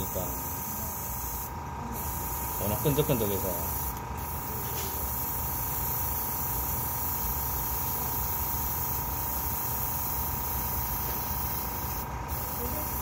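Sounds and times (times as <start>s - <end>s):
airbrush spraying paint: 0.0s - 13.0s.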